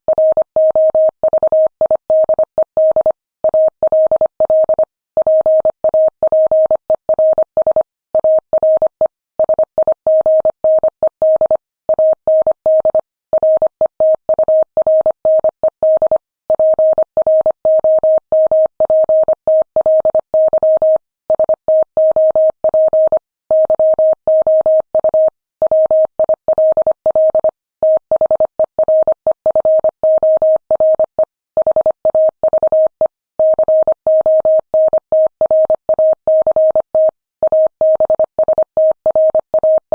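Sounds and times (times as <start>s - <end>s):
morse code beeps: 0.2s - 39.9s.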